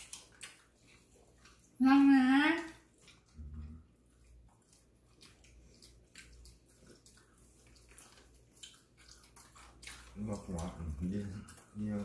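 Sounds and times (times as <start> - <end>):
chewing with soft crackles: 0.0 - 12.0.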